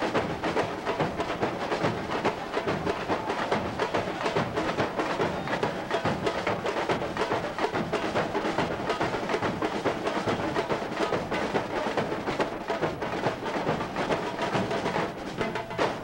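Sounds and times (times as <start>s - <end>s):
samba drums playing fast beat: 0.0s - 16.0s.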